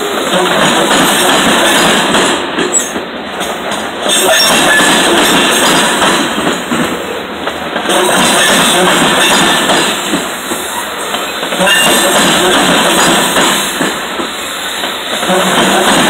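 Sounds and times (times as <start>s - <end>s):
freight train wheels clattering: 0.0s - 16.0s.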